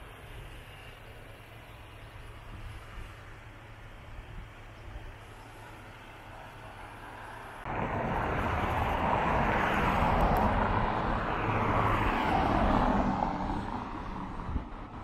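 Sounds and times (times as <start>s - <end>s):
rushing traffic: 0.0s - 15.0s.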